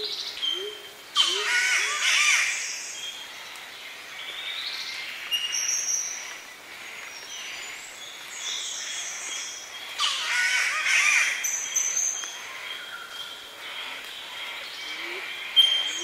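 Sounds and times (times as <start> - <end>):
bird chorus: 0.0 - 16.0.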